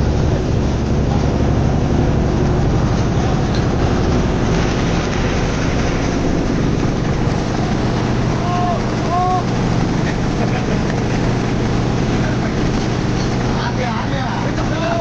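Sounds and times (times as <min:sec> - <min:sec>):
motorboat engine droning: 0:00.0 - 0:15.0
water noise: 0:00.0 - 0:15.0
wind noise: 0:00.0 - 0:15.0.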